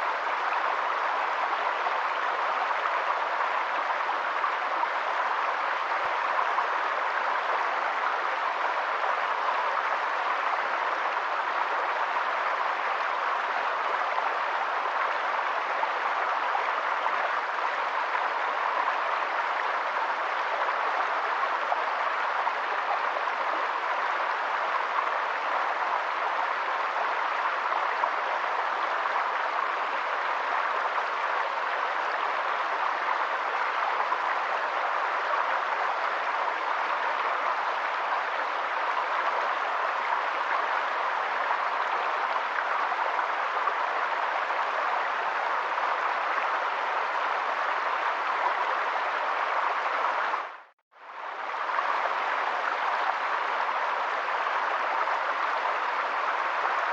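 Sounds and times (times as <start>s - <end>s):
water rushing: 0.0s - 56.9s.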